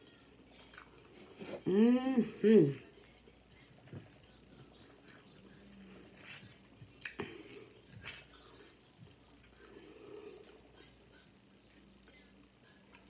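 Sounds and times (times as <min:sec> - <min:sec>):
soft wet chewing: 0:00.5 - 0:01.7, 0:02.7 - 0:13.0.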